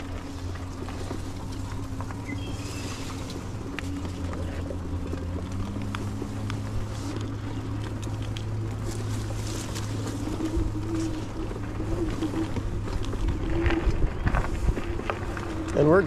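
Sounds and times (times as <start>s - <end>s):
bike clicks and rattles: 0.0s - 16.0s
electric hub motor humming: 0.0s - 16.0s.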